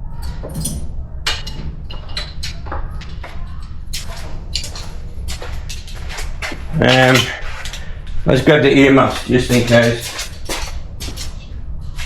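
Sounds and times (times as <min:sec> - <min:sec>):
objects being handled clattering: 0:00.0 - 0:12.0
steady low hum: 0:00.0 - 0:12.0.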